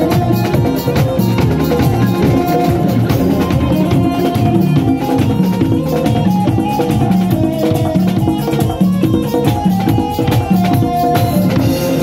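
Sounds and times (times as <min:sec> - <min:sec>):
drum kit and hand percussion: 0:00.0 - 0:12.0
held pitched instrument notes: 0:00.0 - 0:12.0.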